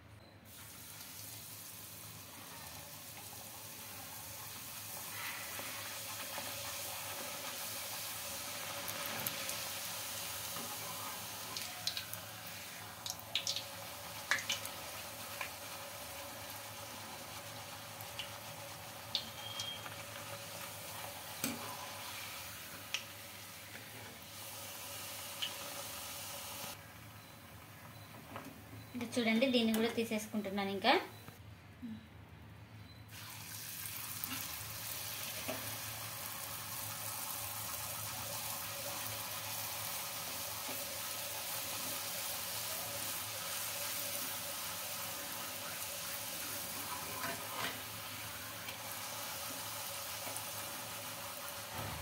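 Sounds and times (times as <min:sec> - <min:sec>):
dough sizzling in hot oil: 0:00.5 - 0:26.8, 0:33.1 - 0:52.0.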